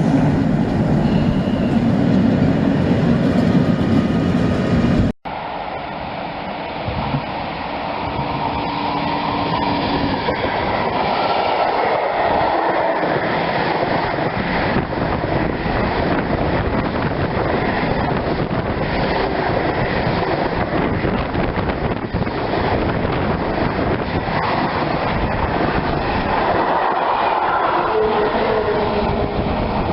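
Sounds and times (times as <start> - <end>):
train wheels on rails: 0.0 - 29.9.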